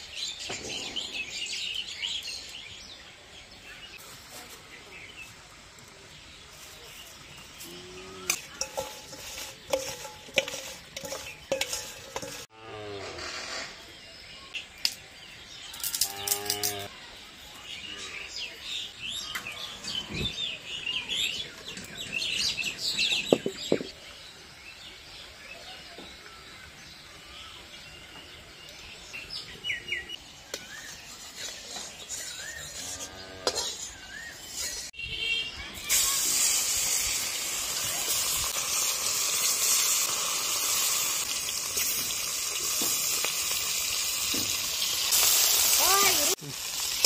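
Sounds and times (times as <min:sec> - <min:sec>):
small birds chirping: 0:00.0 - 0:12.5, 0:13.6 - 0:36.2, 0:37.7 - 0:47.0.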